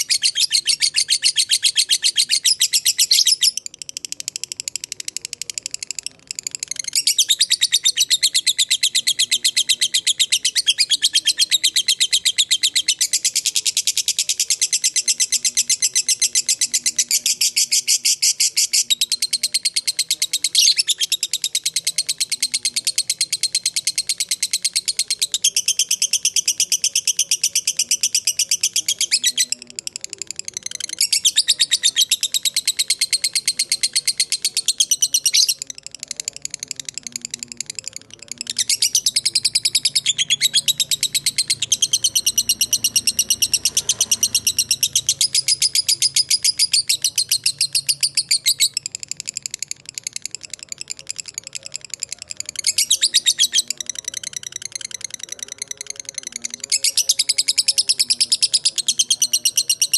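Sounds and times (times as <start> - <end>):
lovebird chattering trills: 0.0 - 5.0, 5.6 - 59.9.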